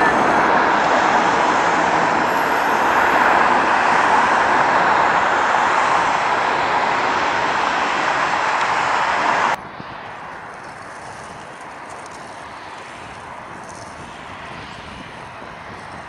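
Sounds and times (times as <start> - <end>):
distant jet noise: 0.0 - 16.0
jet engines roaring: 0.0 - 16.0
wind: 0.0 - 16.0.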